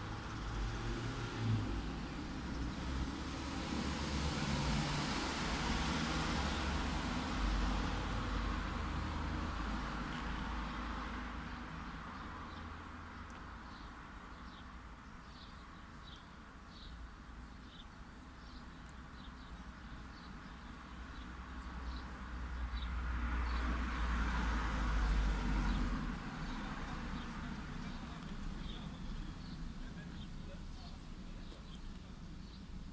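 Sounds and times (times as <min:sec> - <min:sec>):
vehicles passing: 0:00.0 - 0:15.1, 0:19.1 - 0:32.9.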